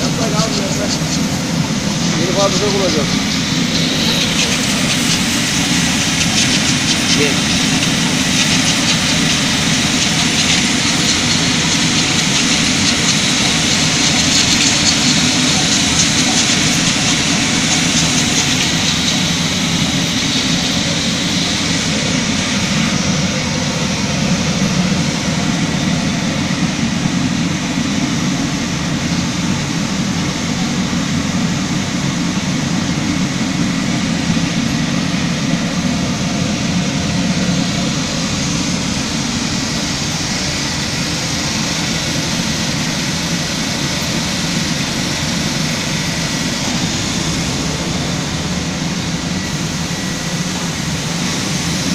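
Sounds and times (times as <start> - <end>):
machine hiss: 0.0 - 51.9.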